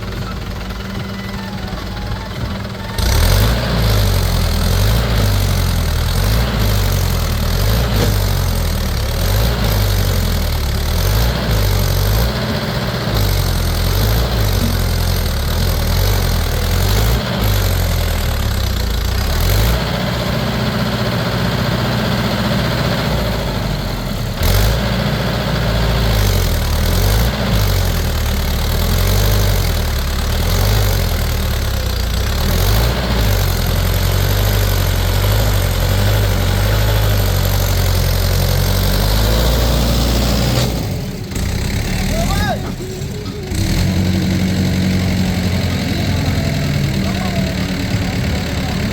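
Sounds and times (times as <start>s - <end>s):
vehicle engine revving: 2.4s - 48.9s.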